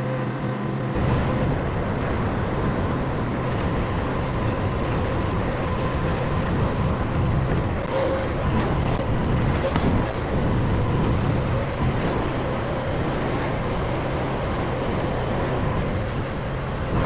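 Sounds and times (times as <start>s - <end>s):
gas engine running under load: 0.0s - 17.0s.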